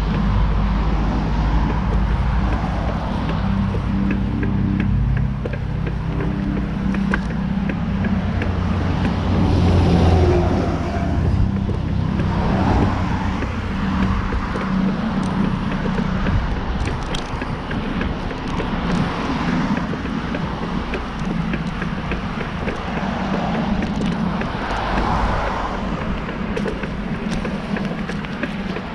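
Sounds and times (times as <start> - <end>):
rolling road noise: 0.0 - 28.9
wind buffeting microphone: 0.0 - 28.9.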